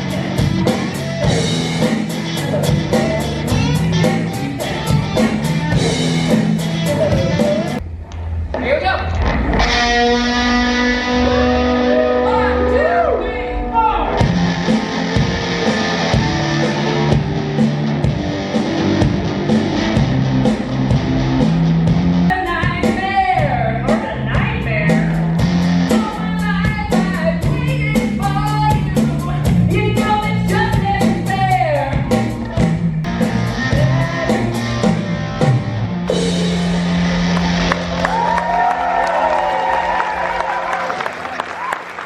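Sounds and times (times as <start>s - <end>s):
live rock band playing: 0.0s - 7.8s, 9.2s - 40.4s.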